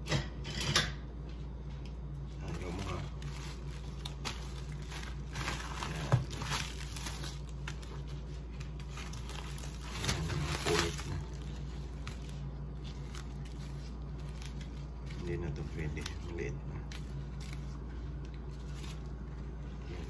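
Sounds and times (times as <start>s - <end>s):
steady low hum: 0.0s - 20.0s
banana leaves rustling: 2.4s - 20.0s.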